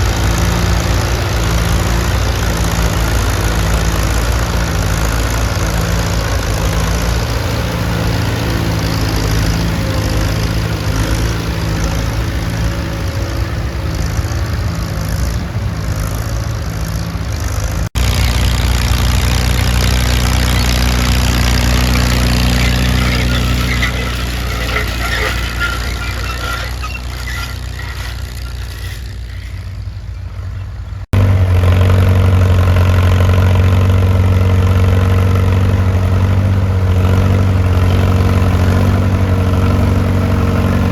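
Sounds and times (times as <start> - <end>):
tractor engines running: 0.0 - 40.9.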